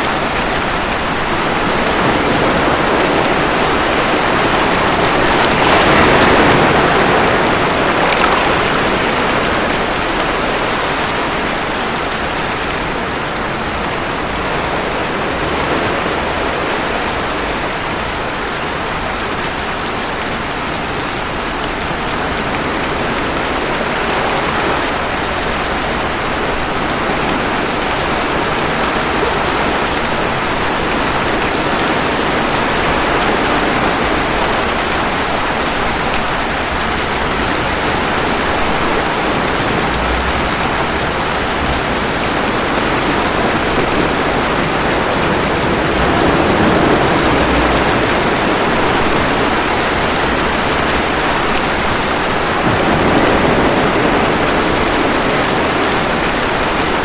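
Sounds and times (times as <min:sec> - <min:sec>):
ocean waves washing ashore: 0:00.0 - 0:57.0
steady rainfall: 0:00.0 - 0:57.0.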